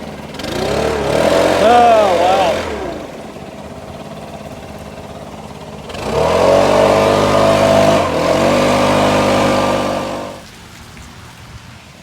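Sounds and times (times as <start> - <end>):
small petrol engine revving: 0.0 - 10.4.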